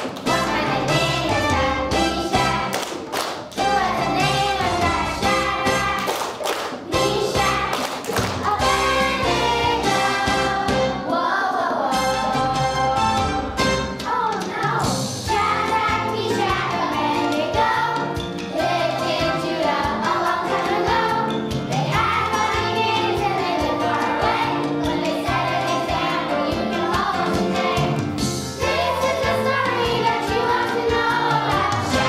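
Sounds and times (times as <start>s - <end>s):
instrumental accompaniment with beat: 0.0s - 11.1s, 11.9s - 32.0s
children's choir singing: 0.0s - 32.0s.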